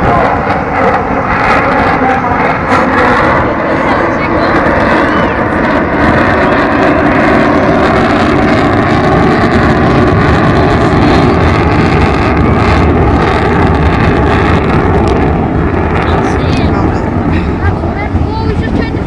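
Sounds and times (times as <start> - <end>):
jet bomber roaring overhead: 0.0 - 19.0.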